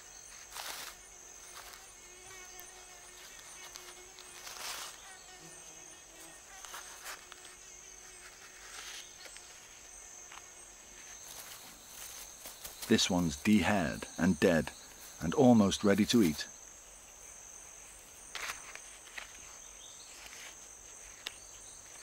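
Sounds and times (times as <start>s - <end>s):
high-pitched insect drone: 0.0s - 19.6s
leaves rustling: 0.0s - 22.0s.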